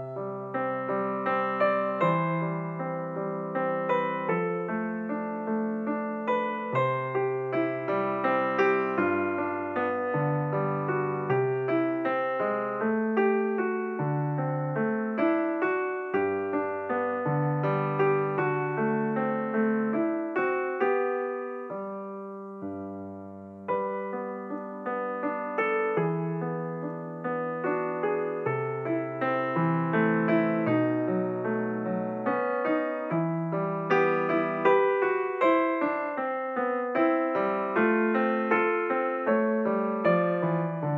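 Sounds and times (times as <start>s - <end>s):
gentle piano melody: 0.0s - 40.9s.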